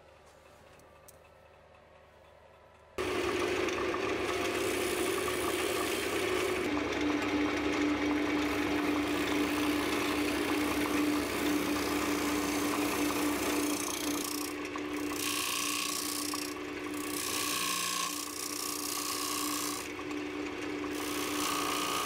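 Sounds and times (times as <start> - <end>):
turning tool scraping wood: 3.0 - 22.0
wood lathe humming: 3.0 - 22.0.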